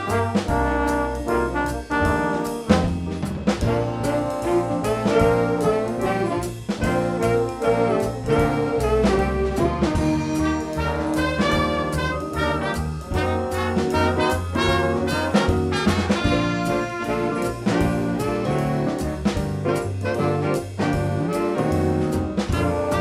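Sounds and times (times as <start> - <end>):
brass band music: 0.0 - 23.0
drum hits: 0.0 - 23.0.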